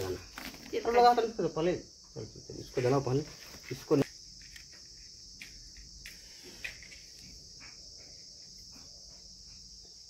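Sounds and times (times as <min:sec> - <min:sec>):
high-pitched insect drone: 0:00.0 - 0:10.0.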